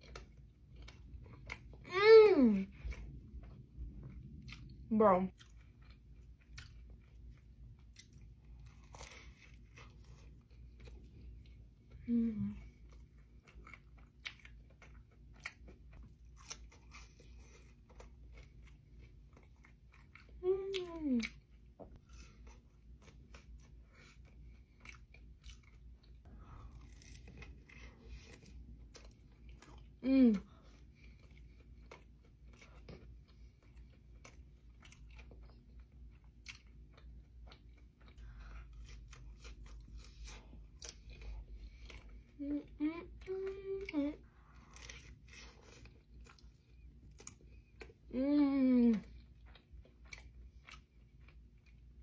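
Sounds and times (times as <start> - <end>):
chewing crunchy fried food: 0.0 - 48.2, 48.9 - 52.0.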